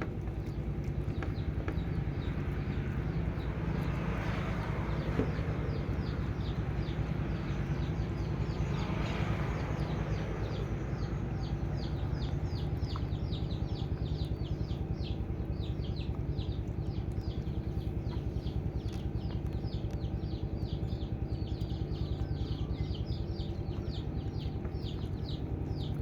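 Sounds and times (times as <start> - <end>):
bird chirping: 0.0 - 26.0
low rumble: 0.0 - 26.0.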